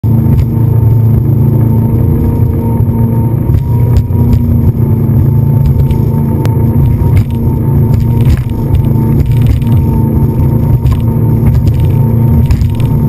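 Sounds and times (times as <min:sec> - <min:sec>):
speedboat engine drone: 0:00.0 - 0:13.0.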